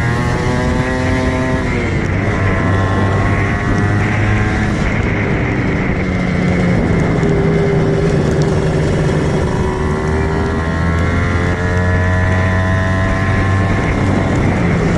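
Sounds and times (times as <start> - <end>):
two-stroke motorcycle engine: 0.0 - 14.9.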